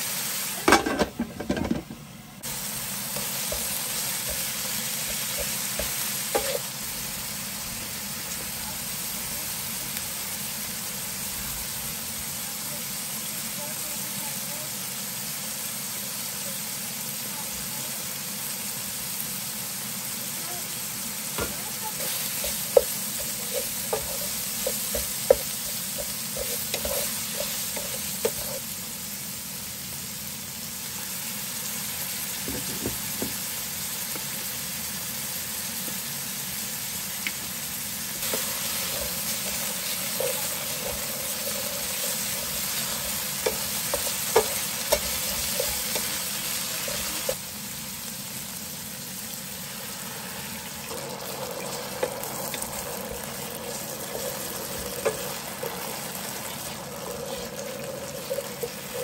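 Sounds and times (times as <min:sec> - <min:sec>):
beef sizzling in a skillet: 0:00.0 - 0:01.6, 0:02.4 - 0:59.0.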